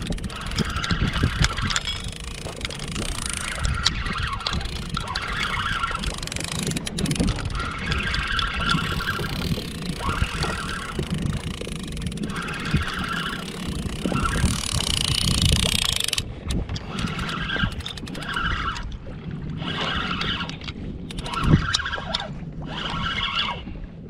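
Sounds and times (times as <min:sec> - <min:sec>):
small waves slapping plastic hull: 0:00.0 - 0:24.0
wind buffeting microphone: 0:00.0 - 0:24.0.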